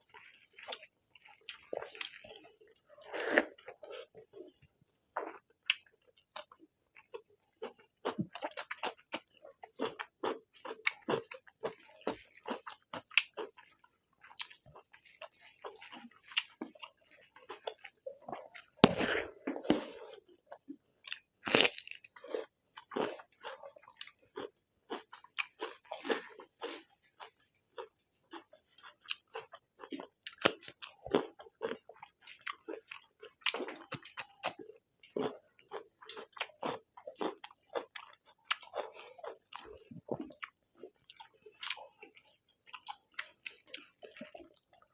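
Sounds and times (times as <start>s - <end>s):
wet chewing and lip-smacking: 5.2s - 44.9s.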